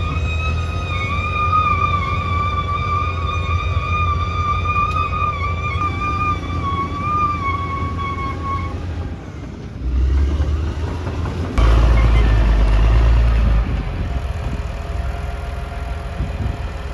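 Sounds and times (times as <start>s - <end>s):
bulldozer diesel engine rumbling: 0.0s - 16.9s.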